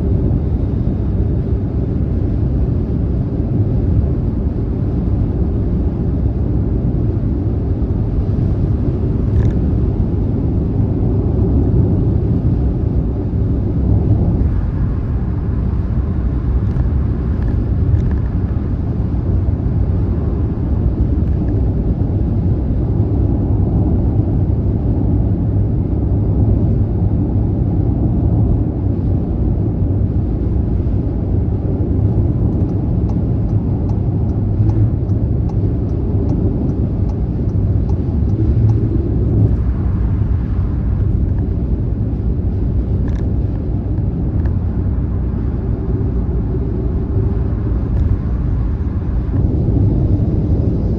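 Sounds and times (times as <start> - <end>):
car tyre and engine rumble: 0.0 - 50.9.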